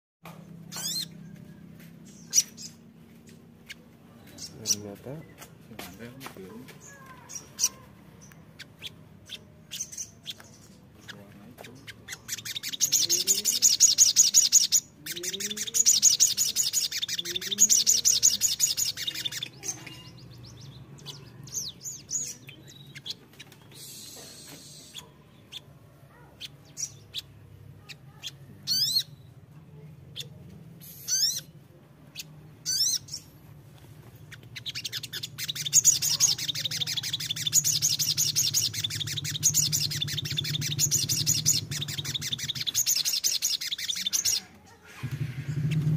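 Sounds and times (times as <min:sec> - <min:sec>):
bird chattering trill: 0:00.7 - 0:01.2, 0:02.1 - 0:03.8, 0:06.8 - 0:29.3, 0:30.1 - 0:31.5, 0:32.1 - 0:33.3, 0:34.3 - 0:45.9.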